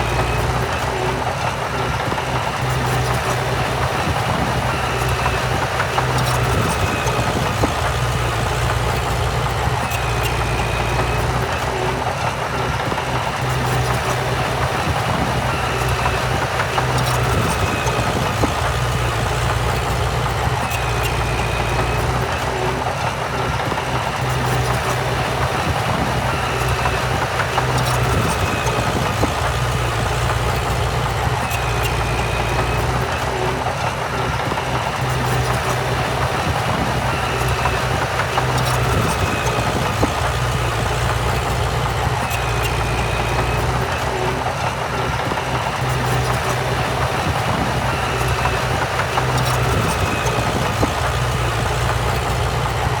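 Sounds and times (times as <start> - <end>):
heavy machinery diesel engine running: 0.0 - 53.0.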